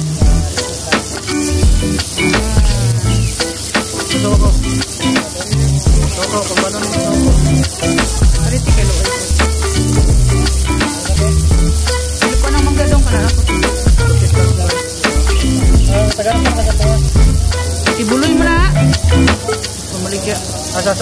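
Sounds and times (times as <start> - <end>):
background music with beat: 0.0 - 19.9
meat sizzling on hot plate: 0.0 - 21.0.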